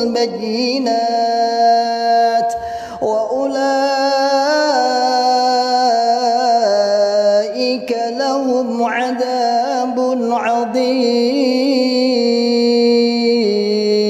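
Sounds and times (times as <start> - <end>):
person reciting melodically: 0.0 - 14.0.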